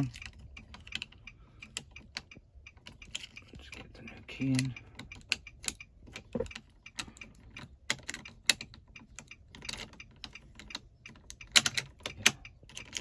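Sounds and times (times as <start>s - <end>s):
metal key clicking in ignition: 0.0s - 13.0s.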